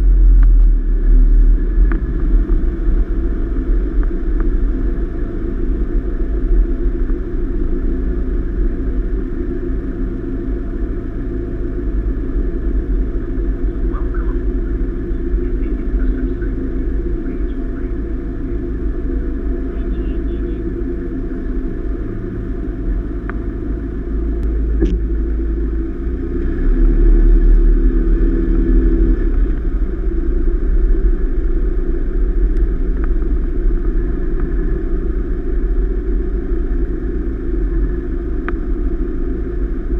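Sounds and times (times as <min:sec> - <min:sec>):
muffled vehicle engine and road rumble: 0:00.0 - 0:39.9.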